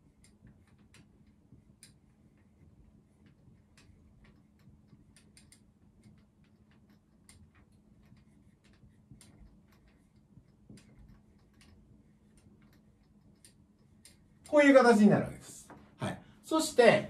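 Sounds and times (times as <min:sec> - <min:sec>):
pen tapping while writing: 0:00.0 - 0:14.2
low steady hum: 0:00.0 - 0:17.0.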